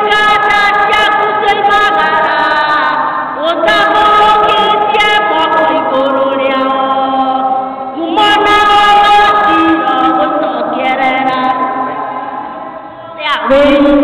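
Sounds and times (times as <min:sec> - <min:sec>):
women singing a hymn: 0:00.0 - 0:12.4.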